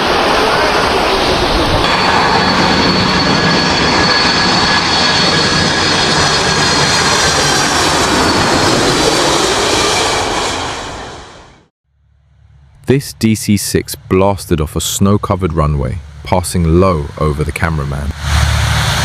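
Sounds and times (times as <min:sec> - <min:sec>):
jet blast roar: 0:00.0 - 0:11.7, 0:12.8 - 0:19.0
high turbine whine: 0:00.0 - 0:19.0.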